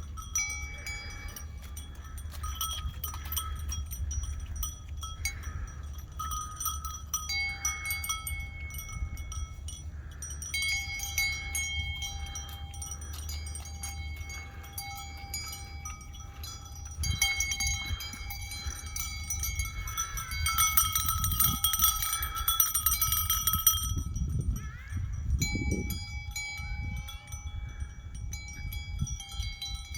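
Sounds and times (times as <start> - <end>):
metal bells ringing: 0.0 - 29.9.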